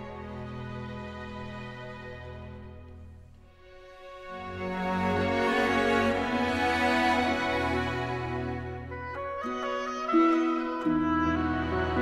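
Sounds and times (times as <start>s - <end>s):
music of sustained chords: 0.0s - 12.0s.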